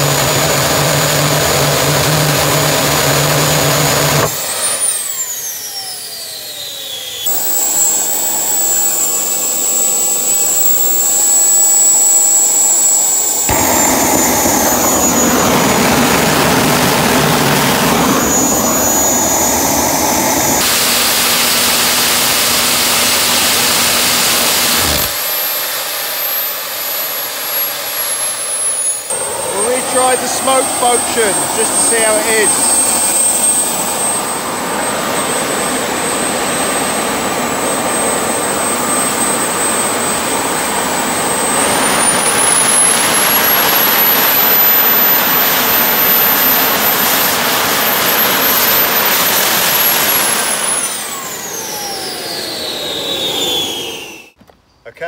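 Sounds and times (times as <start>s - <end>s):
jet turbine engine whine: 0.0s - 54.4s
rushing exhaust noise: 0.0s - 54.4s.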